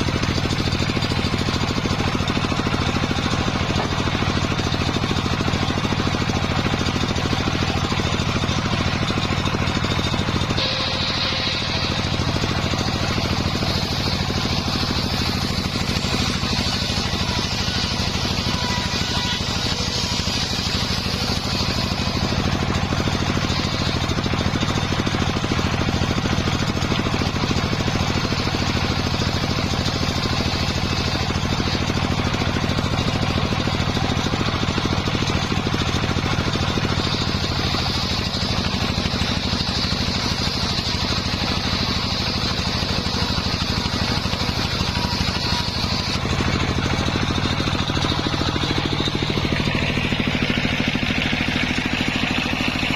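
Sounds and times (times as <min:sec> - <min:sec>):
high saw whine: 0:00.0 - 0:52.9
sawmill low drone: 0:00.0 - 0:52.9.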